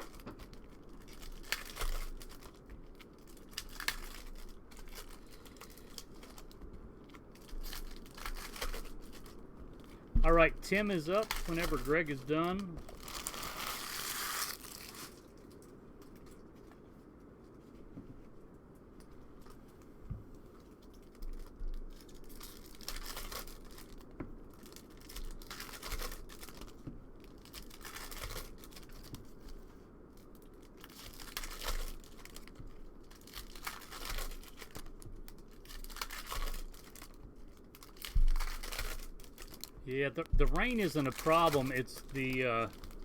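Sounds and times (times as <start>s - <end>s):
wrappers crinkling and tearing: 0.0s - 16.8s, 20.6s - 43.0s.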